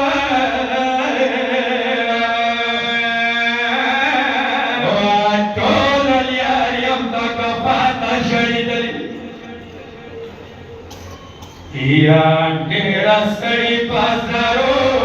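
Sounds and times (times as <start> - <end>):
man chanting slow melody: 0.0 - 9.9, 11.7 - 15.0.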